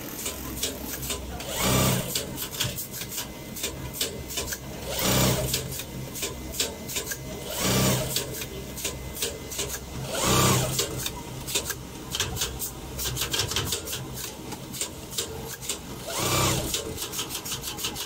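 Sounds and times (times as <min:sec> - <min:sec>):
machine noise bursts: 0:00.0 - 0:11.8, 0:14.8 - 0:18.0
small mechanical clicks: 0:00.0 - 0:18.0.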